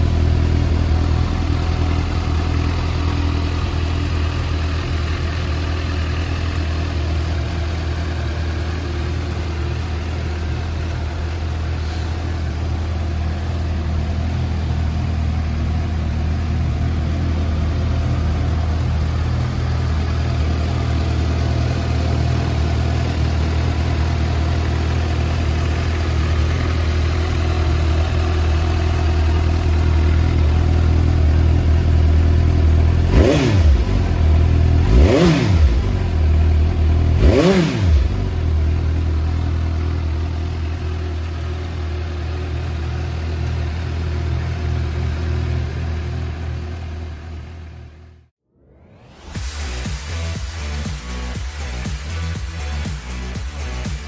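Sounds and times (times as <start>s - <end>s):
motorcycle engine idling: 0.0s - 48.3s.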